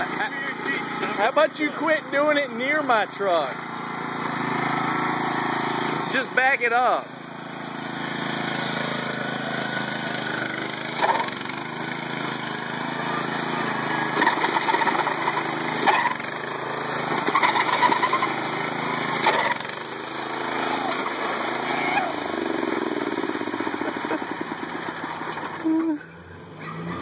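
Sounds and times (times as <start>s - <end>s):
riding lawn mower engine: 0.0s - 27.0s.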